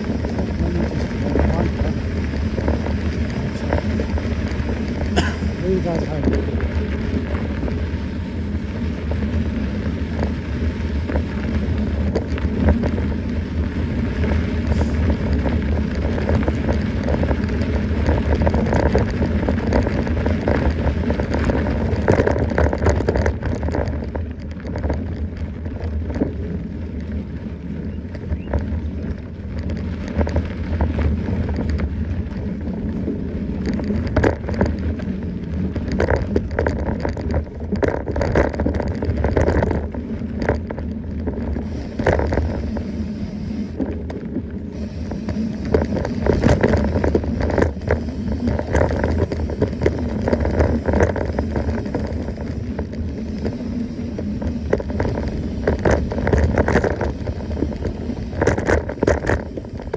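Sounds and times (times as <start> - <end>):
bike rattling over rough ground: 0.0 - 59.9
wind rushing over microphone: 0.0 - 59.9.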